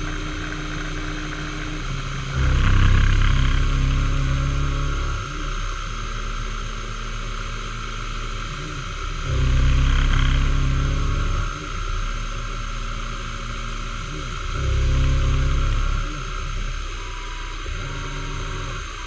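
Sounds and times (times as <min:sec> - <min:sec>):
milling machine cutting metal: 0:00.0 - 0:19.0.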